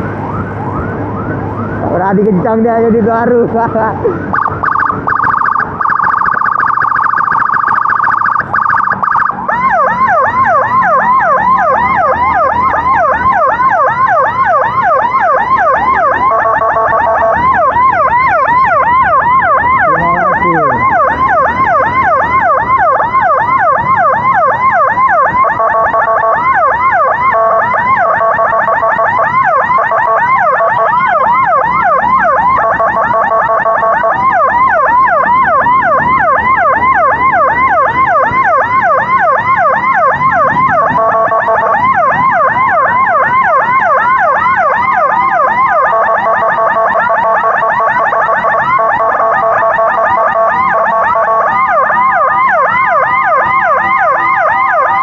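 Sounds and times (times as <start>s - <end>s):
emergency vehicle siren: 0.0s - 55.0s
second siren pulsing tones: 0.0s - 55.0s.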